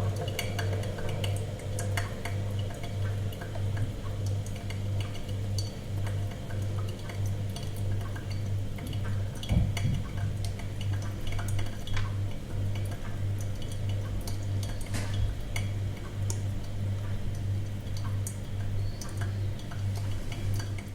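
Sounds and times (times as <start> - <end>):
coffee machine humming: 0.0 - 20.9.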